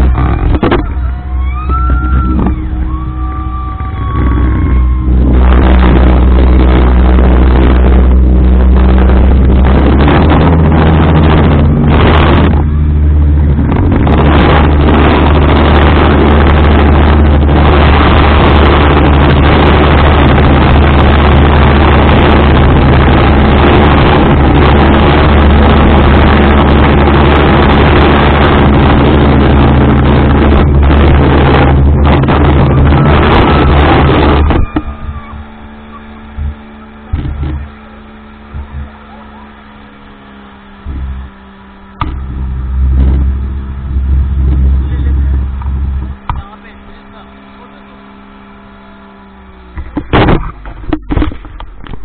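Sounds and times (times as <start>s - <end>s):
speedboat engine drone: 0.0s - 52.0s
wind and water rushing: 0.0s - 52.0s.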